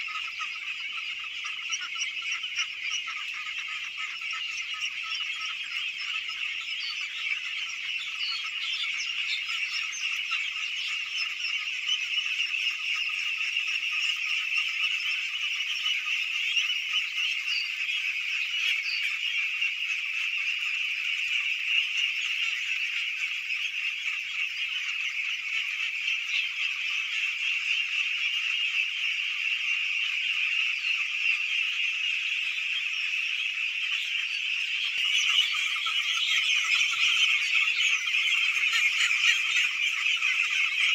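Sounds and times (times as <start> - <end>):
ducklings calling: 0.0 - 40.9.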